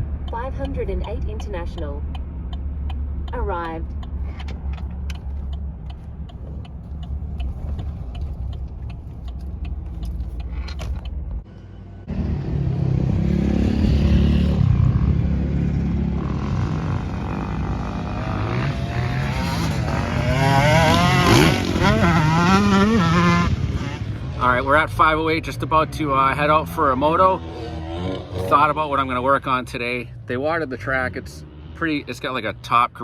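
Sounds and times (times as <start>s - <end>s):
dirt bike engines revving: 0.0s - 11.4s, 12.1s - 33.0s
car road rumble from inside: 0.0s - 33.0s.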